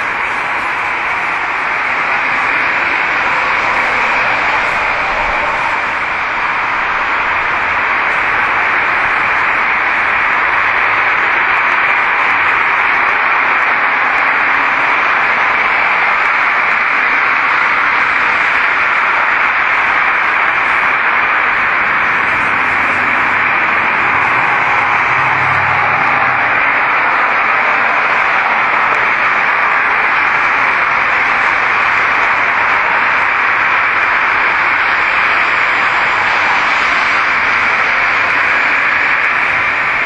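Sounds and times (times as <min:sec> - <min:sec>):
steady rushing hiss: 0:00.0 - 0:40.0.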